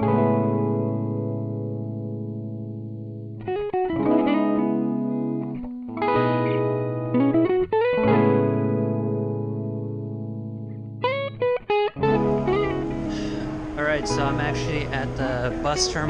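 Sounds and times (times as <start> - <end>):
guitar chords ringing: 0.0 - 16.0.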